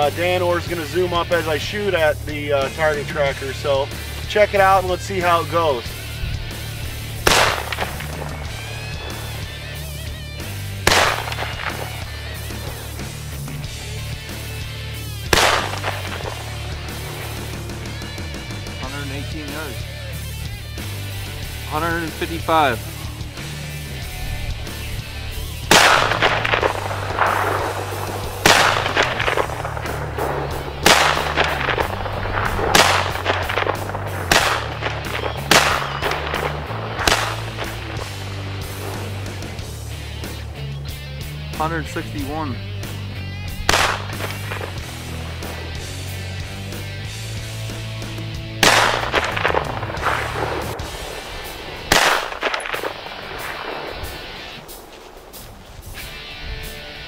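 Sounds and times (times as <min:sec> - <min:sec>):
rifle shots: 0:00.0 - 0:40.8, 0:43.6 - 0:47.8, 0:48.5 - 0:55.8
background music with bass: 0:00.0 - 0:57.0.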